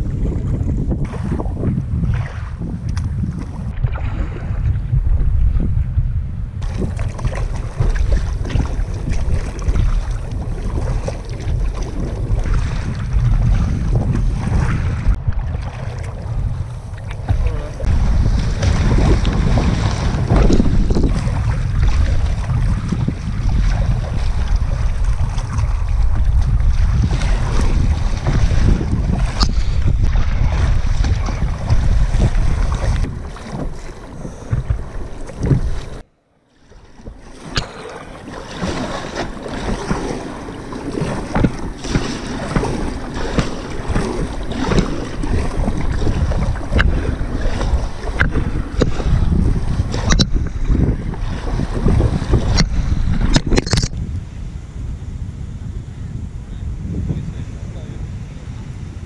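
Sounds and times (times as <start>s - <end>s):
water splashing against kayak: 0.0s - 5.9s, 6.6s - 54.9s
wind buffeting microphone: 0.0s - 36.0s, 36.7s - 59.0s
paddle strokes: 6.6s - 54.0s.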